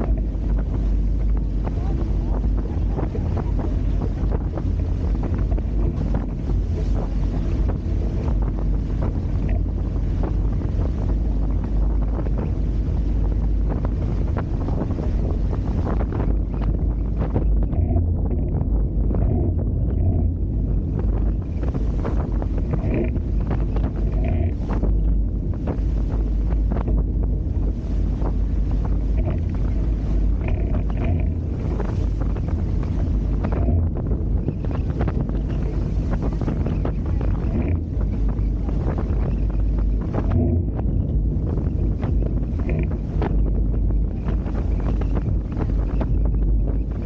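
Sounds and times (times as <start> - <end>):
water rushing along hulls: 0.0 - 47.0
water splashing and slapping: 0.0 - 47.0
wind buffeting microphone: 0.0 - 47.0.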